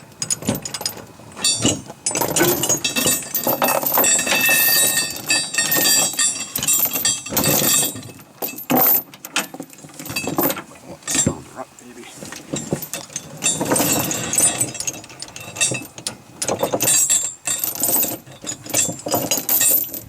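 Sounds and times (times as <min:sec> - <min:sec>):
chain clinking and rattling: 0:00.2 - 0:11.4, 0:12.2 - 0:20.0.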